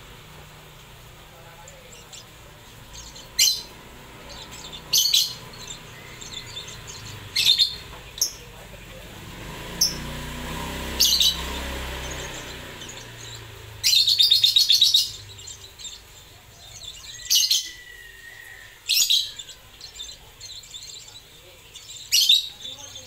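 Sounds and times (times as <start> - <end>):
lovebird chirping: 0.0 - 23.0.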